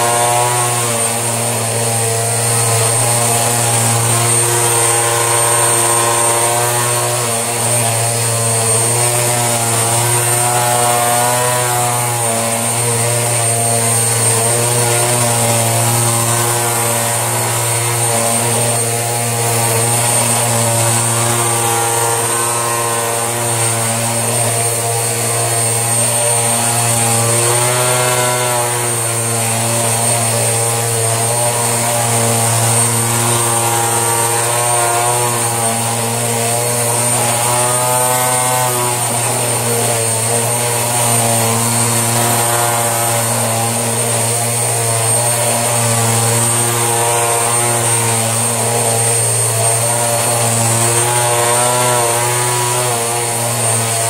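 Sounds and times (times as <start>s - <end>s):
vacuum cleaner motor hum: 0.0s - 54.0s.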